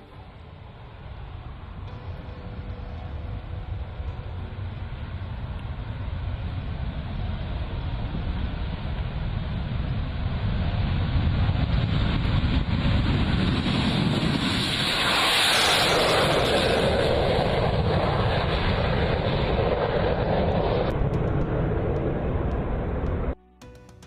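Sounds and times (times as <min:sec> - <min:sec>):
fighter jet roar taking off: 0:00.0 - 0:23.4.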